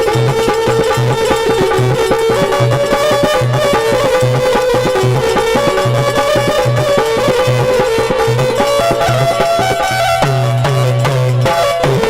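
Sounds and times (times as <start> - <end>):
repeating drum beat: 0.0 - 12.0
sustained folk melody: 0.0 - 12.0.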